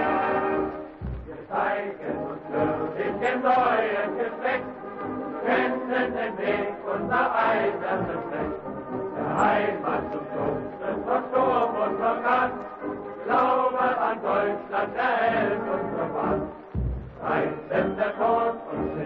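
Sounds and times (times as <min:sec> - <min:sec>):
chant-like singing with music: 0:00.0 - 0:19.0.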